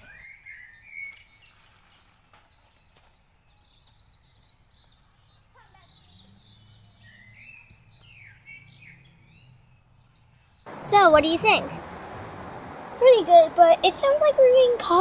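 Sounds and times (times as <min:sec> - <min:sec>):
songbirds chirping and whistling: 0:00.0 - 0:14.8
outdoor background noise: 0:00.0 - 0:15.0.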